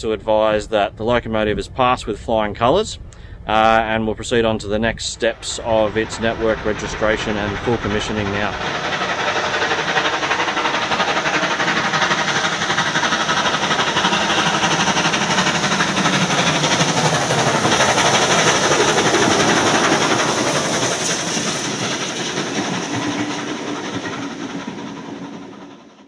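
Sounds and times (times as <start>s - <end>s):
steam locomotive exhaust beats: 0.0s - 26.0s
steam hissing: 3.1s - 26.0s.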